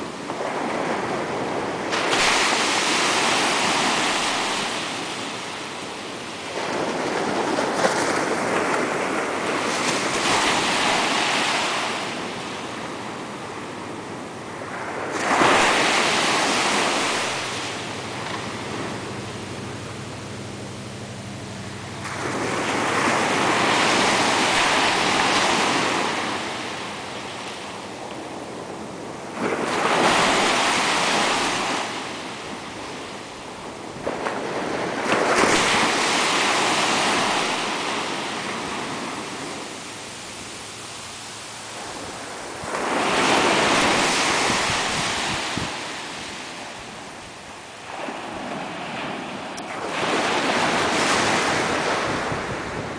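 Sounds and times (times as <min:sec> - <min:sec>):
waves breaking on shore: 0:00.0 - 0:52.9.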